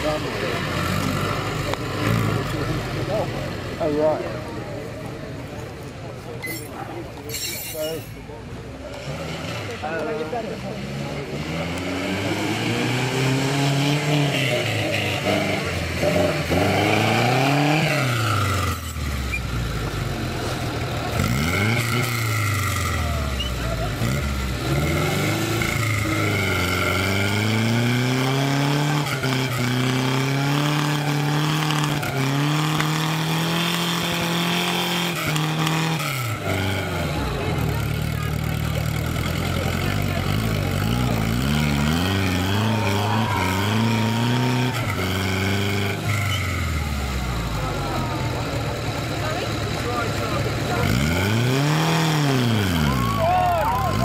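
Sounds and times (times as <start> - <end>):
car engine revving: 0.0 - 5.5, 8.6 - 54.0.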